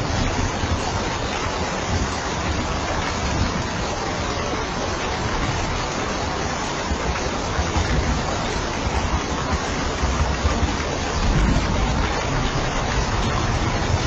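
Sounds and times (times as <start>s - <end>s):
rain falling on a roof: 0.0s - 14.0s.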